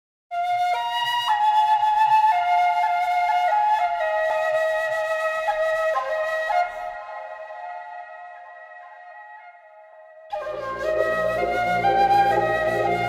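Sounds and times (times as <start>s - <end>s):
slow wind instrument melody: 0.4s - 13.0s.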